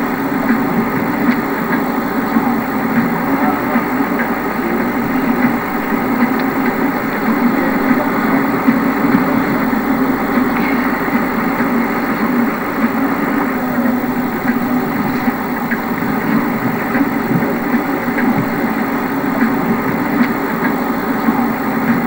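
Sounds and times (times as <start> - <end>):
engine running: 0.0 - 22.0
paddle wheel churning water: 0.0 - 22.0.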